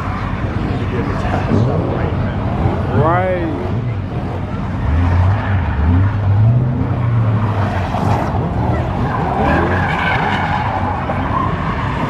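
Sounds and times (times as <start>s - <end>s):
car engine revving: 0.0s - 12.0s
tires squealing: 0.0s - 12.0s.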